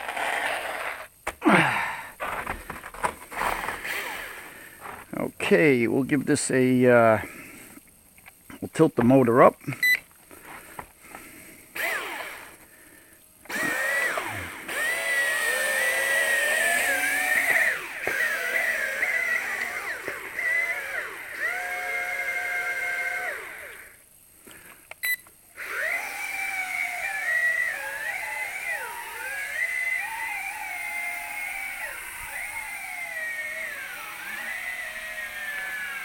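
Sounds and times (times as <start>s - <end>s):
small electric motors whining: 0.0s - 5.1s, 9.8s - 36.0s.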